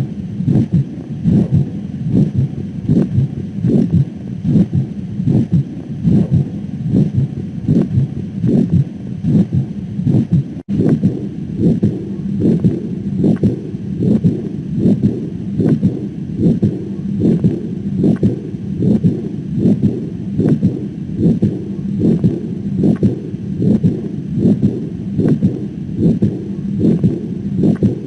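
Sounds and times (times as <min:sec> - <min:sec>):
heartbeat through stethoscope: 0:00.0 - 0:28.0.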